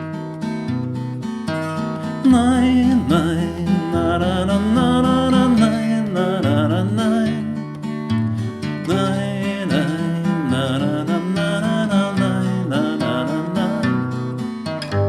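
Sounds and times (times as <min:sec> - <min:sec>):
acoustic guitar bass notes: 0:00.0 - 0:15.0
guitar melody with vibrato: 0:00.0 - 0:15.0.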